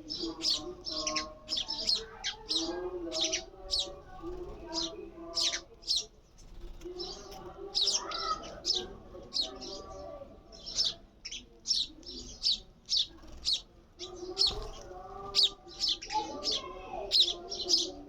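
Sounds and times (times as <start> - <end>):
sparrow chirping: 0.0 - 18.0.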